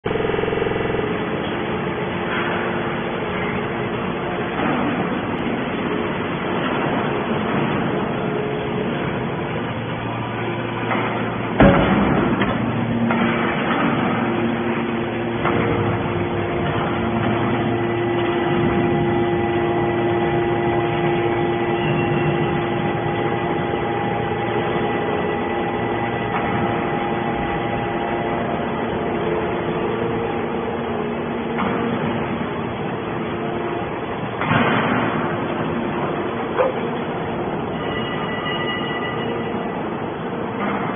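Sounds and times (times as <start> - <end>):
hydraulic power unit humming and whining: 0.0 - 40.9.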